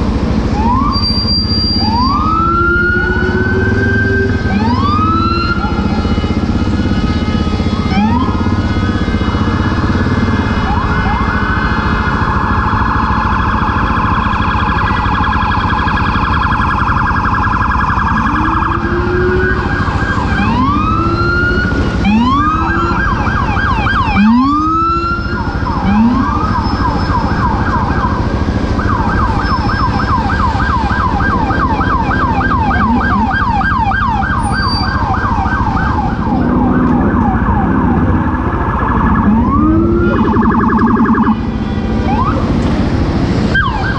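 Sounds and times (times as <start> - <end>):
emergency vehicle sirens: 0.0 - 43.9
rumble of engines and traffic: 0.0 - 43.9.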